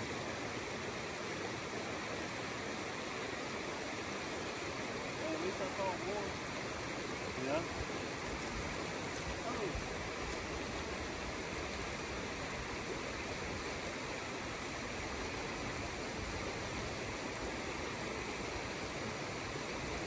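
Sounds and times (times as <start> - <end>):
river flowing over stones: 0.0 - 20.0.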